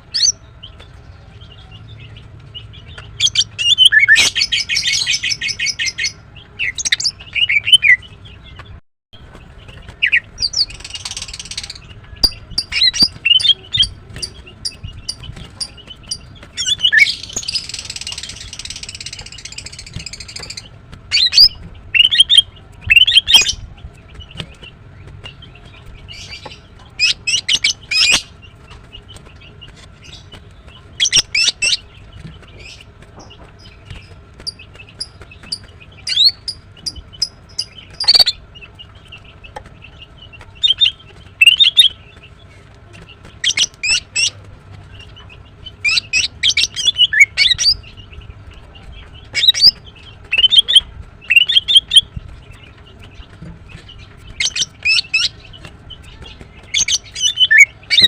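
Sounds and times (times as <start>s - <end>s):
bird chirps and trills: 0.0s - 58.0s.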